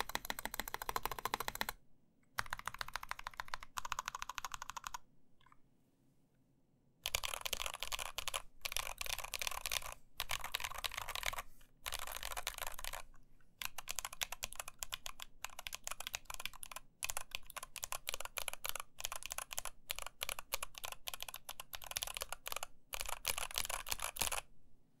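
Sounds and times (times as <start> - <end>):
mechanical keyboard typing: 0.0 - 1.8, 2.4 - 5.0, 7.0 - 24.5.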